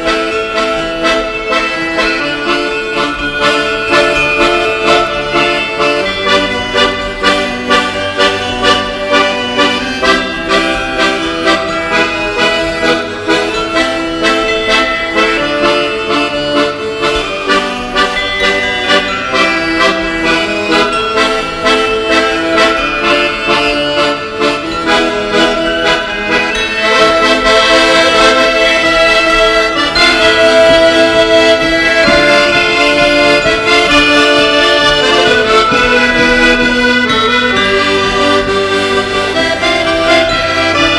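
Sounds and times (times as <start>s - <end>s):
accordion folk music: 0.0s - 40.9s.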